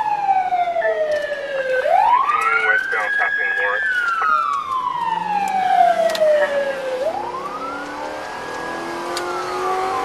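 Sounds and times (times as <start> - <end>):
police siren wailing: 0.0 - 10.0.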